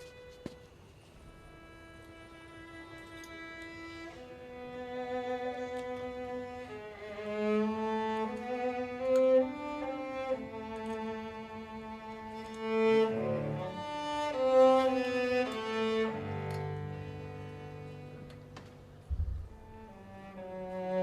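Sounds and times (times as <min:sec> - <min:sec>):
cello with string orchestra: 0:00.0 - 0:21.0.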